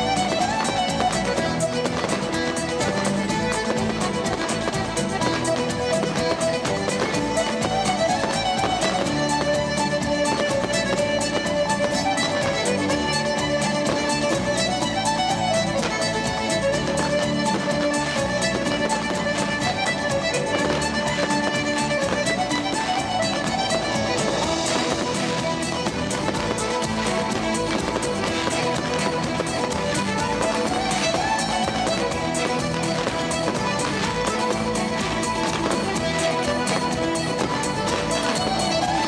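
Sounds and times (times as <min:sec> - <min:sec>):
fiddle music: 0:00.0 - 0:39.0.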